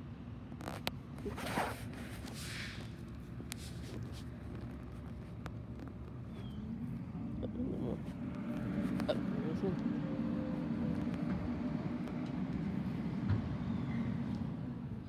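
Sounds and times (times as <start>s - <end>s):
footsteps on sidewalk: 0.8s - 15.0s.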